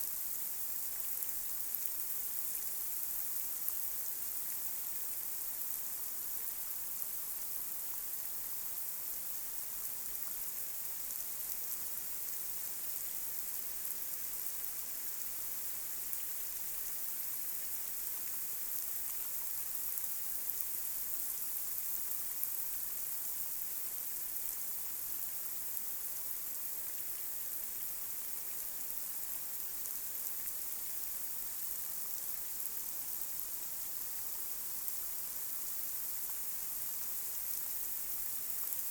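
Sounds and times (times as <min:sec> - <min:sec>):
light rain on a street: 0:00.0 - 0:38.9.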